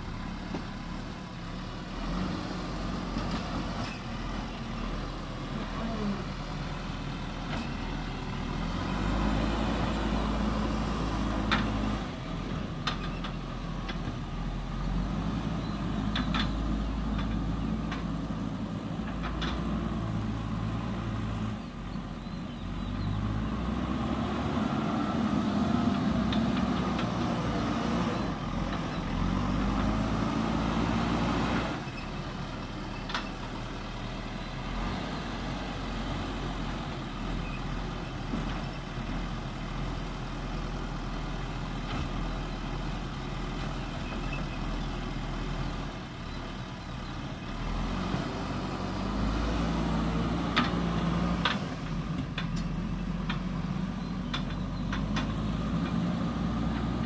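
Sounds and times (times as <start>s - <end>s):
diesel digger engine under load: 0.0s - 57.0s.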